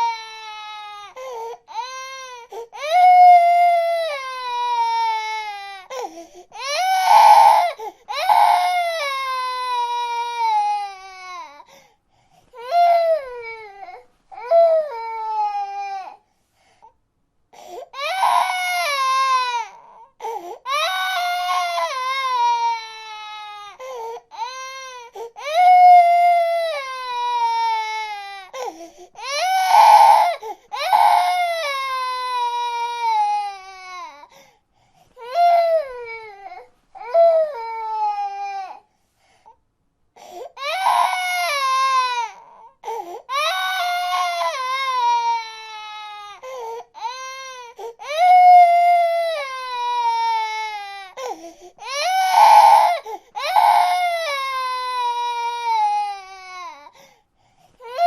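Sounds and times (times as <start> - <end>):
baby crying: 0.0 - 11.7, 12.6 - 16.2, 17.9 - 34.4, 35.2 - 38.8, 40.4 - 57.0.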